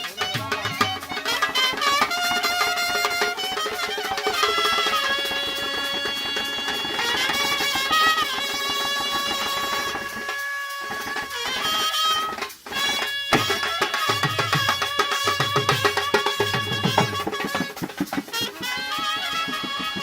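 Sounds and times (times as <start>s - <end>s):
fast dense drumming: 0.0s - 20.0s
wind instrument melody: 0.0s - 20.0s.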